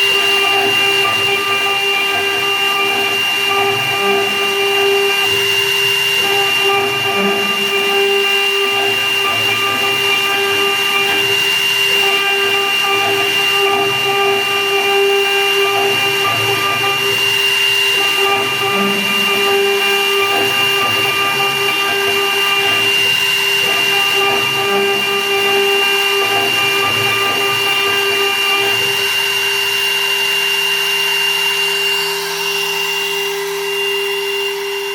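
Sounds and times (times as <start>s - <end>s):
uneven cutting noise: 0.0s - 29.3s
milling machine spindle whining: 0.0s - 34.9s.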